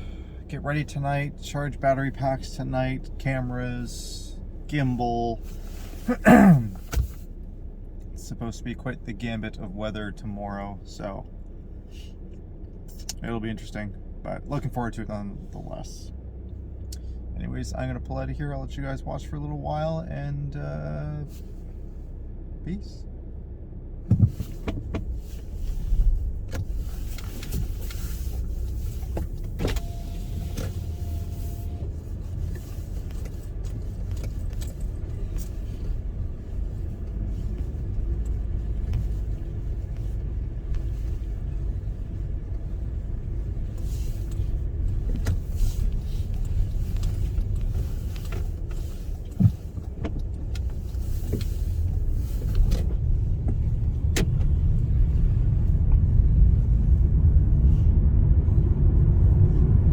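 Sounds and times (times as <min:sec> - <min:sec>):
engine and road rumble in car: 0:00.0 - 0:59.9.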